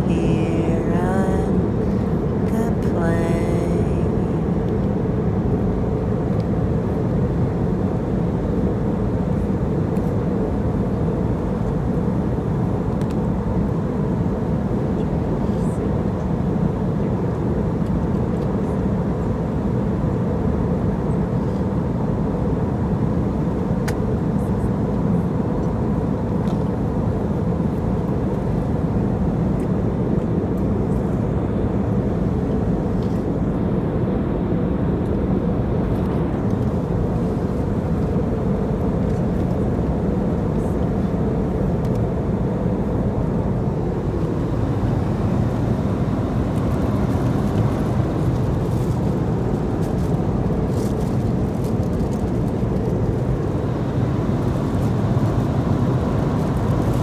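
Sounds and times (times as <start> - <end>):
airliner cabin engine rumble: 0.0 - 57.0
faint constant hum: 0.0 - 57.0.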